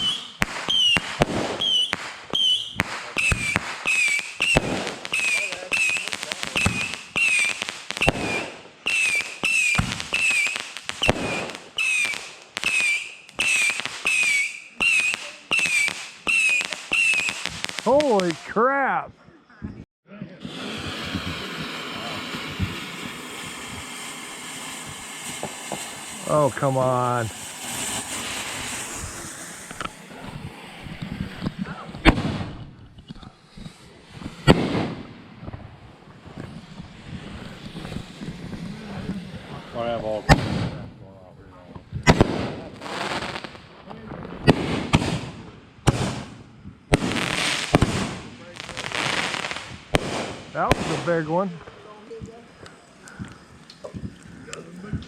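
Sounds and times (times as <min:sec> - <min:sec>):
deep firework thumps: 0:00.0 - 0:14.2, 0:14.8 - 0:40.9, 0:41.6 - 0:52.4, 0:53.2 - 0:54.2
fireworks whistling and crackling: 0:00.0 - 0:55.0.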